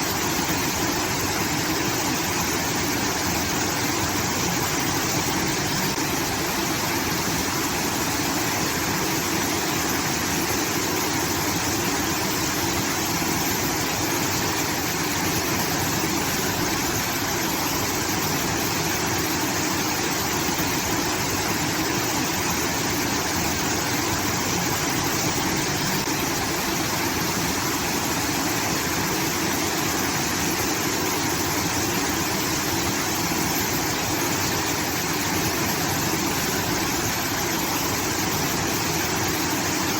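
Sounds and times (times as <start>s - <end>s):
water rushing from outlet: 0.0s - 39.9s.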